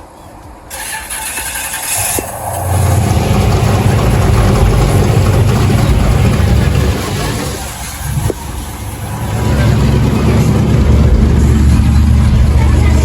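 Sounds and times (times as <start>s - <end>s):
car engine rumbling: 0.6s - 13.0s.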